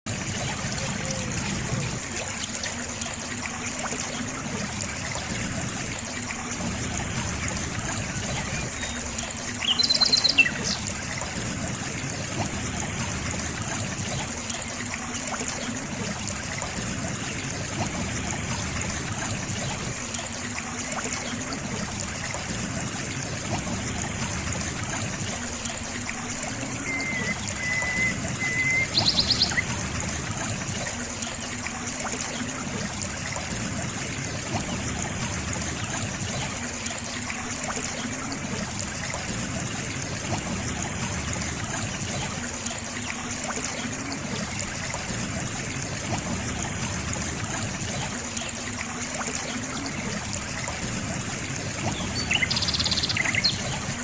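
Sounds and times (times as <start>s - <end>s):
small waterfall trickling and splashing: 0.0s - 54.0s.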